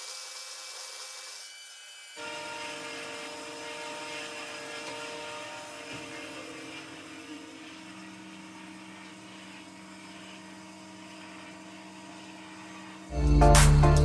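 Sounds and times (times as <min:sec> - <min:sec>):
band saw machine hum: 0:02.2 - 0:14.0.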